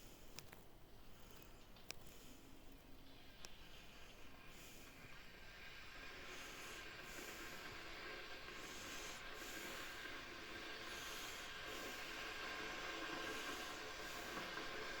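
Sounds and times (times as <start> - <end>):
electric kettle heating water: 0.0 - 15.0.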